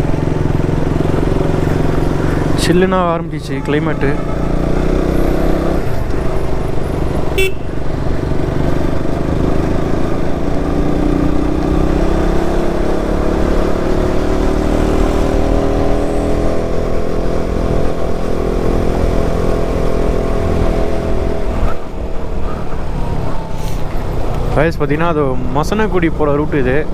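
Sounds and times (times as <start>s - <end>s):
motorcycle engine accelerating: 0.0s - 26.9s.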